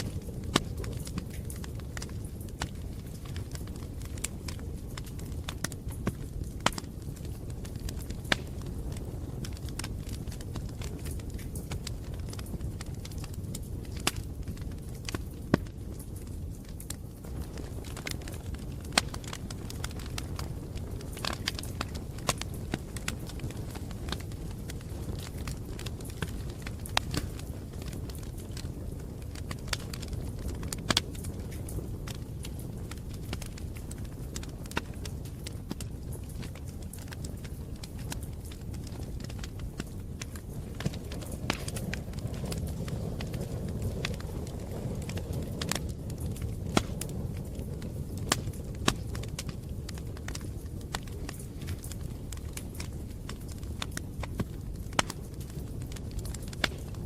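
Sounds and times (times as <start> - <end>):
bonfire crackling and popping: 0.0 - 57.0
campfire rumble: 0.0 - 57.0.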